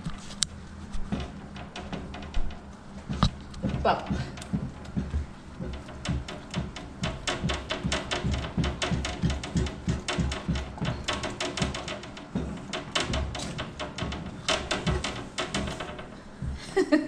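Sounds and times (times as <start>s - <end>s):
pot knocking on stove: 1.1s - 16.6s.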